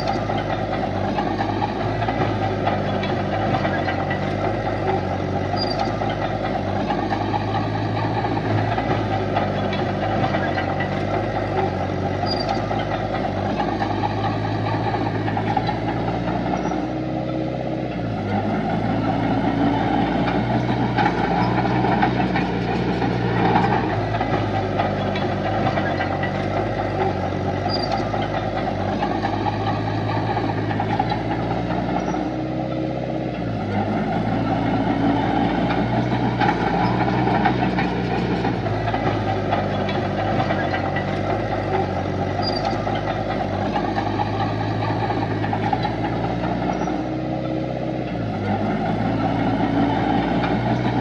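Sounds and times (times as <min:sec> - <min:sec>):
heavy machinery diesel engines running: 0:00.0 - 0:51.0.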